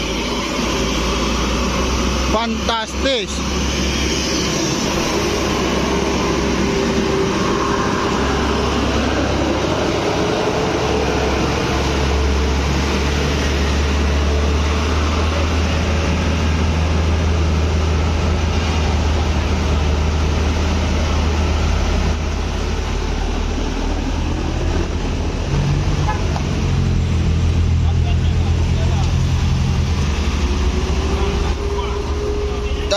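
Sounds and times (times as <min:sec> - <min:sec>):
diesel engine droning: 0:00.0 - 0:32.9
road noise: 0:00.0 - 0:32.9.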